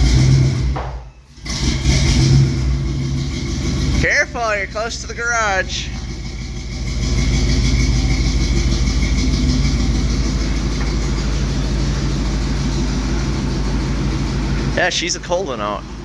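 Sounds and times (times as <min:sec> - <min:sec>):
pickup truck engine running: 0:00.0 - 0:16.0.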